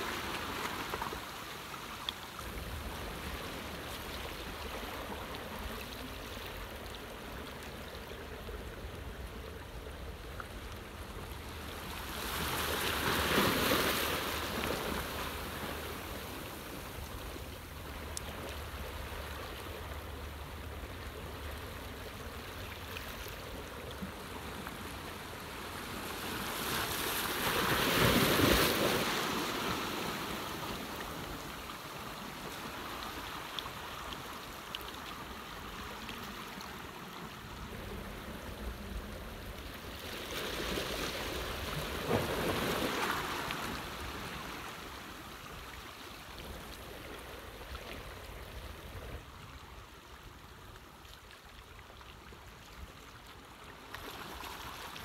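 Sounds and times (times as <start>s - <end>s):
sea waves washing against shore: 0.0s - 50.6s.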